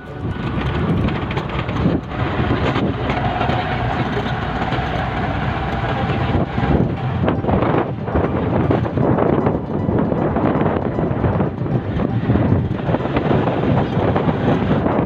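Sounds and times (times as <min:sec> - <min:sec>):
moving vehicle rumbling: 0:00.0 - 0:15.0.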